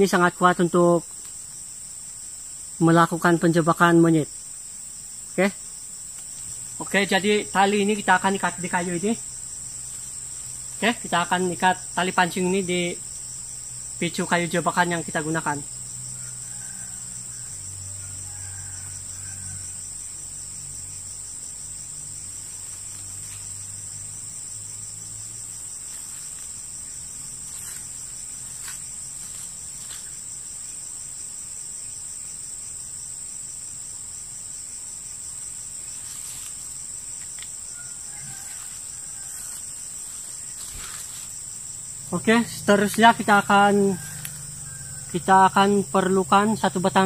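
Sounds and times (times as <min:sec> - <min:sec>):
insects chorus shrill drone: 0:00.0 - 0:47.0.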